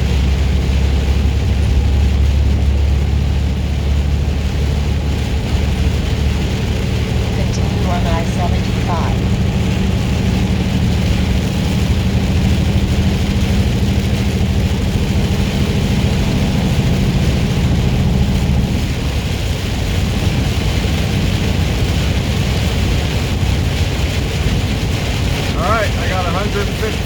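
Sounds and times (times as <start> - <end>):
diesel engine drone: 0.0 - 27.0
tyres spraying on wet road: 0.0 - 27.0.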